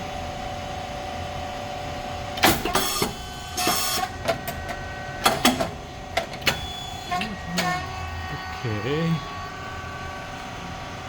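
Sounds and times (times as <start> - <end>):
machine motor hum: 1.1 - 11.0.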